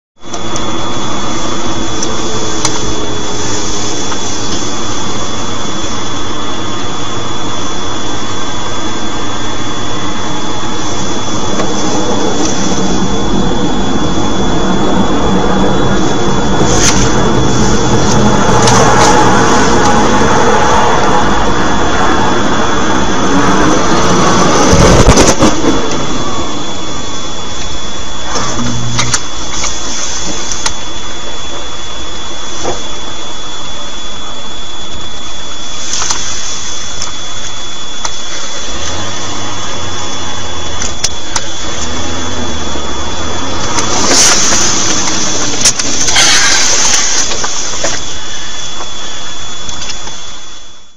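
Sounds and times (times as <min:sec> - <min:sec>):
vehicle engine and road noise: 0:00.2 - 0:31.2, 0:38.0 - 0:49.0
thin high whine: 0:00.2 - 0:50.9.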